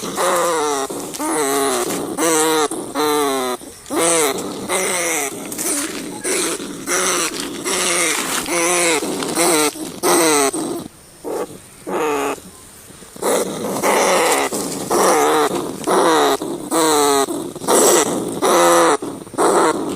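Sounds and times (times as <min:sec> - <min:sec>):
rat squealing: 0:00.0 - 0:12.4, 0:13.2 - 0:19.9.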